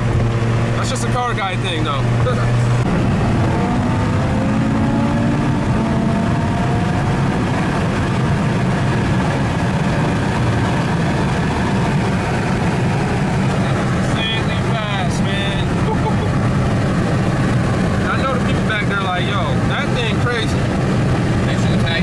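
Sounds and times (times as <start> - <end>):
car engine accelerating: 0.0 - 22.0
road and wind noise: 0.0 - 22.0.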